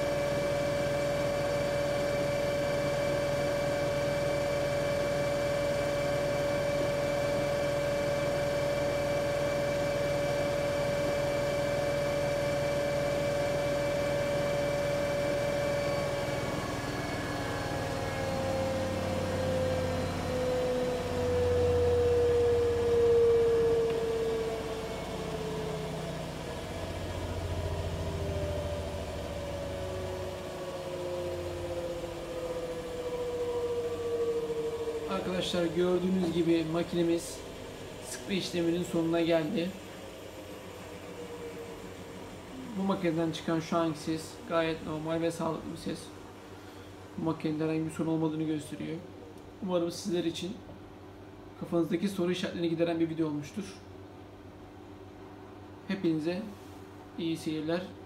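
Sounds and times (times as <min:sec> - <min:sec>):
washing machine spin whine: 0:00.0 - 0:58.0.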